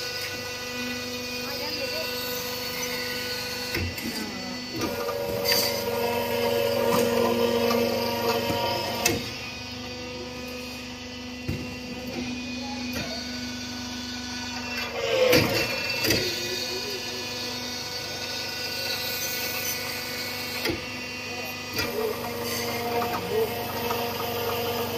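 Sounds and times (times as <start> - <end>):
machinery humming: 0.0 - 24.9.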